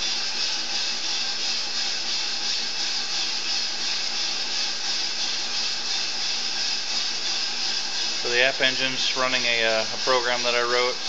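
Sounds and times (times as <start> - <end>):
coffee roaster hissing: 0.0 - 11.0.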